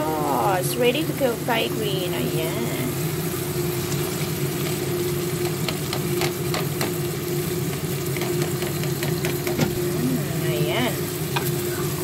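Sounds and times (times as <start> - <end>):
curry sizzling in a pot: 0.0 - 12.0
steady low hum: 0.0 - 12.0.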